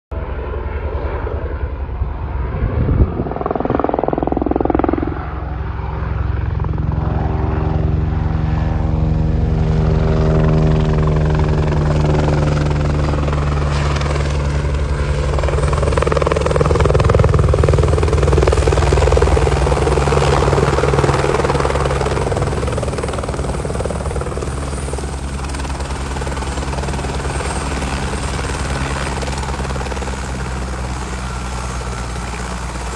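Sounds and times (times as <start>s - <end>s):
helicopter rotor chop: 0.2s - 32.9s.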